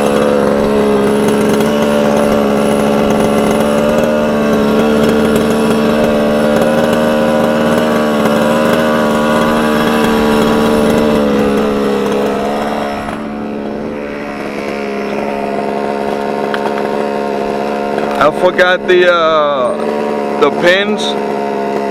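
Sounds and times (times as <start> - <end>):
small two-stroke engine running: 0.0 - 21.9.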